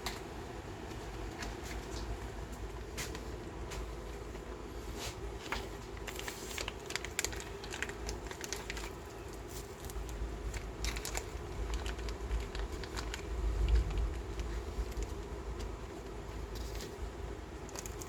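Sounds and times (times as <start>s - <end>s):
crinkling scratching sounds: 1.3s - 18.0s.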